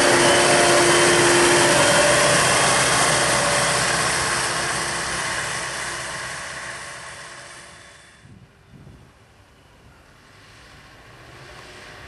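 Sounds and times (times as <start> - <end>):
diesel engine driving by: 0.0 - 8.3, 10.2 - 12.0.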